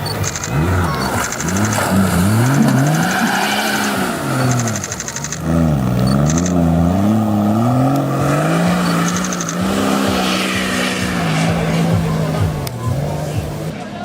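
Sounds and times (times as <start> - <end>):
rapid high ticking: 0.0 - 13.7
engine revving off-road: 0.0 - 14.0.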